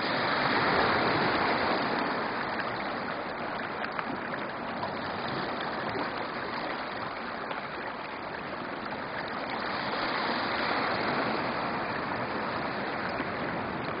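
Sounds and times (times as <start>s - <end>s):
shallow water running over stones: 0.1s - 14.0s.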